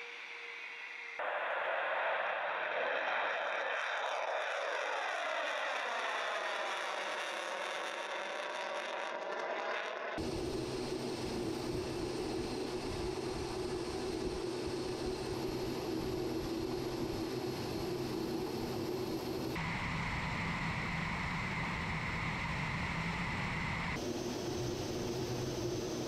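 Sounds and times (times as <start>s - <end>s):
jet engines and rushing air: 0.0s - 26.0s.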